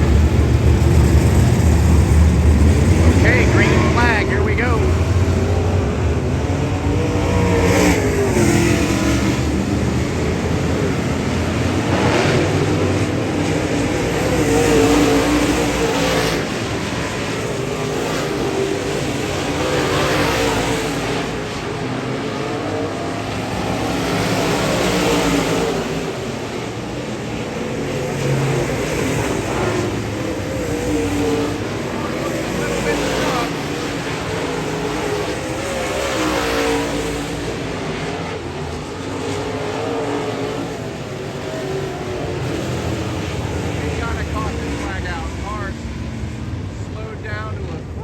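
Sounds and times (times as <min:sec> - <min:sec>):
race car engines passing: 0:00.0 - 0:48.0.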